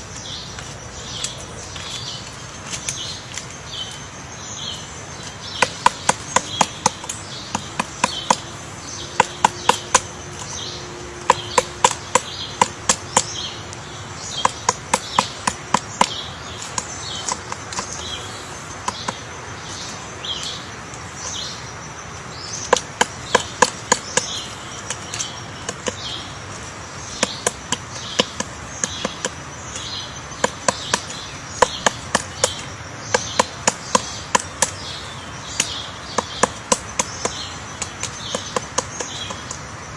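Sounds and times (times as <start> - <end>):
woodpecker pecking on wood: 4.7 - 39.8.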